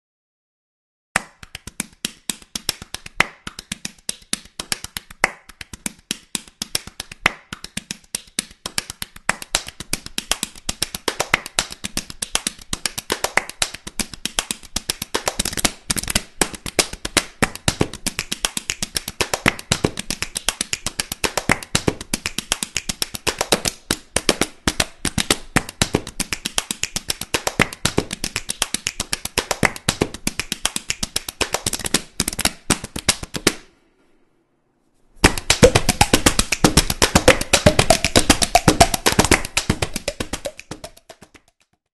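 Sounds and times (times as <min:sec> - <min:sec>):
rapid light taps and clicks: 0:01.2 - 0:33.6, 0:35.2 - 0:41.8.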